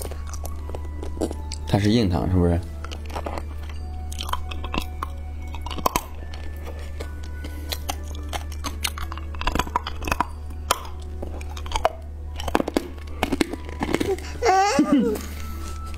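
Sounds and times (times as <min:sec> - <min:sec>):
hard candy crunching: 0:00.0 - 0:15.9.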